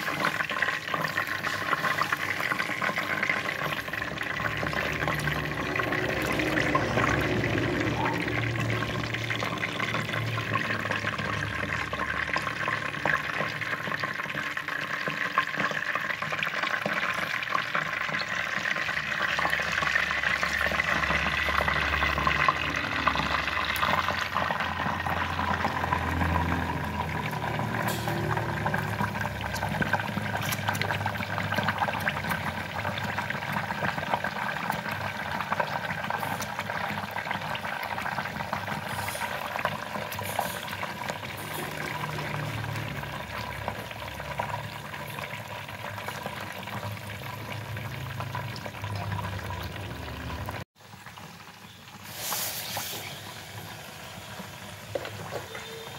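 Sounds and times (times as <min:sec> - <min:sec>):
fish frying in oil: 0:00.0 - 0:55.9.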